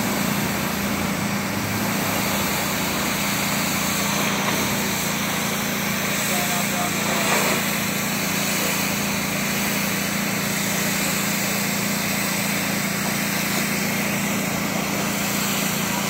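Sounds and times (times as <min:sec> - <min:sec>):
pressure washer engine hum: 0:00.0 - 0:16.0
water jet hissing on concrete: 0:00.0 - 0:16.0.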